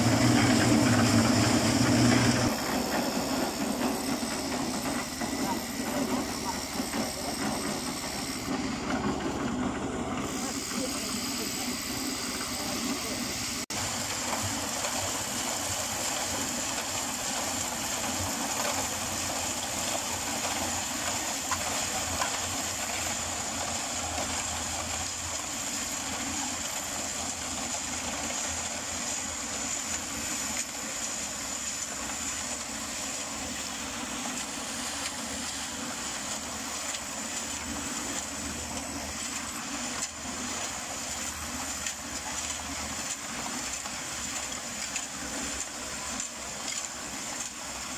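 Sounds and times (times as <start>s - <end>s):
concrete mixer running: 0.0s - 47.9s
wet concrete sliding down chute: 0.0s - 47.9s.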